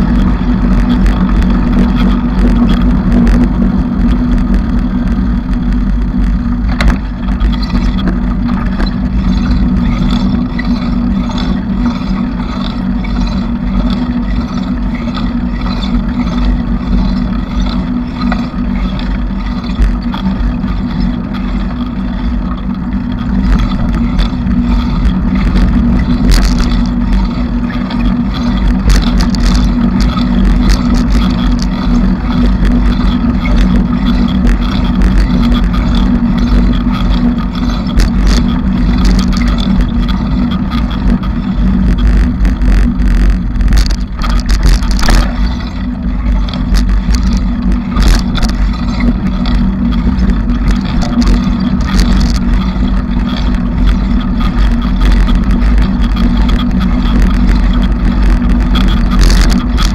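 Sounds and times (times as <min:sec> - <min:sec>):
bicycle riding rumble: 0:00.0 - 0:59.9
bike rattles and clicks: 0:00.0 - 0:59.9.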